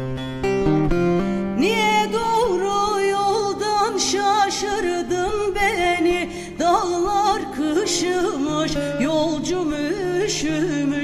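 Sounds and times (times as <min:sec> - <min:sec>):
plucked acoustic guitar: 0:00.0 - 0:11.0
woman singing folk song: 0:01.4 - 0:11.0.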